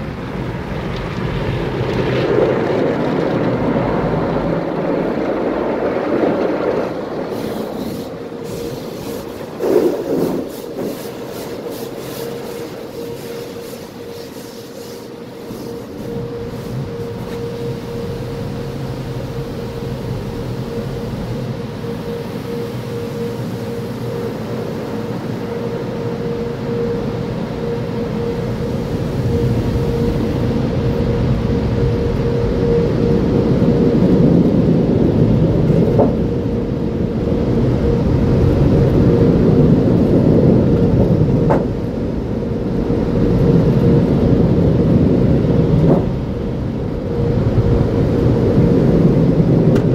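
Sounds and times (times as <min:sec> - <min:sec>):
car wash rumble and hum: 0:00.0 - 0:49.9
dryer blowers: 0:00.0 - 0:49.9.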